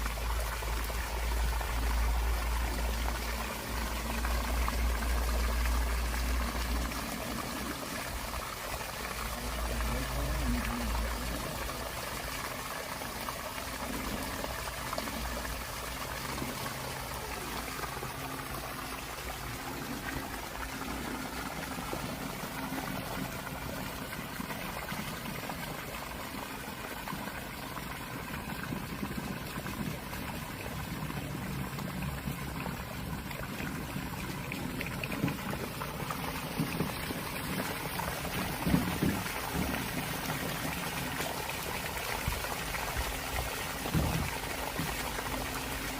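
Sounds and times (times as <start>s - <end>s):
water pouring from pipe: 0.0s - 45.9s.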